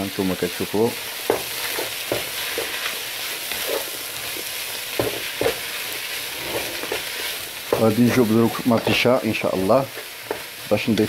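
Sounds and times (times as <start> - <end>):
meat sizzling in a frying pan: 0.0 - 11.0
wooden spatula scraping a pan: 1.2 - 11.0.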